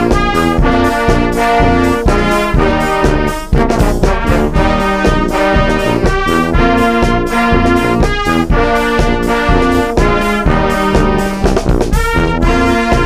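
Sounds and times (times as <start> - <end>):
brass music over steady beat: 0.0 - 13.0.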